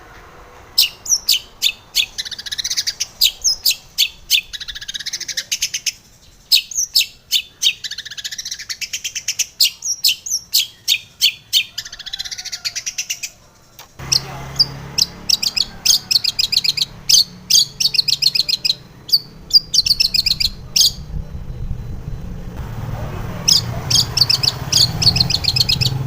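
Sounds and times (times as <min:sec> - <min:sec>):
bird singing with rattling chatter: 0:00.5 - 0:26.0.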